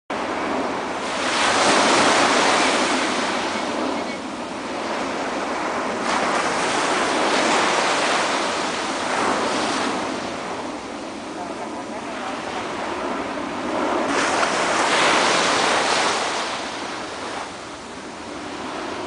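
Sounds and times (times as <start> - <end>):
surf breaking on a beach: 0.1 - 19.0.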